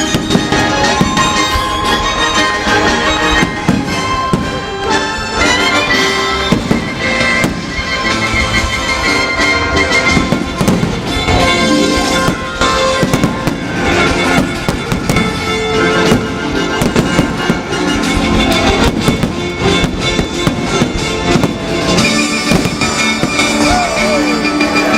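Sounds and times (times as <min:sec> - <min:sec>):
fireworks bangs: 0:00.0 - 0:24.9
music playing: 0:00.0 - 0:24.9.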